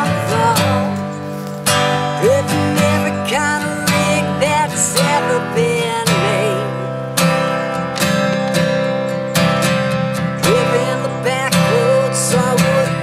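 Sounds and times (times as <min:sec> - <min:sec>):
acoustic guitar strumming: 0:00.0 - 0:13.0
sliding guitar melody: 0:00.0 - 0:13.0.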